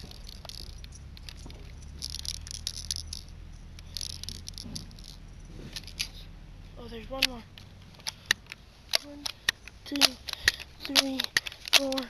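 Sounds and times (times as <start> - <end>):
bb gun clicking and rattling: 0.0 - 6.2, 7.0 - 12.0.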